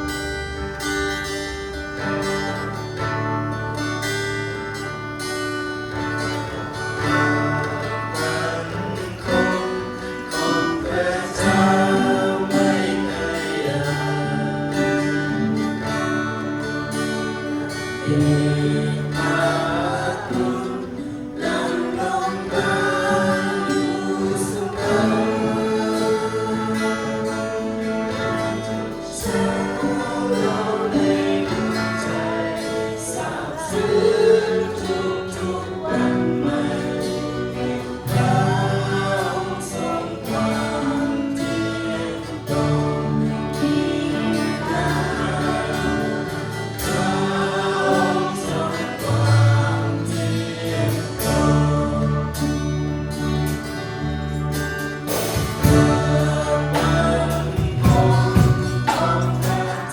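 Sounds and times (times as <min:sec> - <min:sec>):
group singing worship song: 0:00.0 - 0:59.9
guitar: 0:00.0 - 0:59.9.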